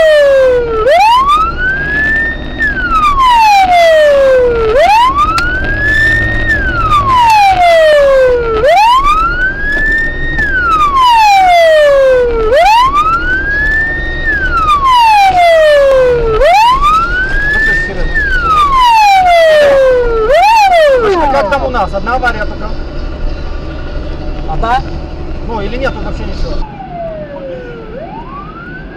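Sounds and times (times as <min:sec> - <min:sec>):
police siren wailing: 0:00.0 - 0:23.0, 0:25.7 - 0:28.9
car engine and tyres rumbling: 0:00.0 - 0:28.9.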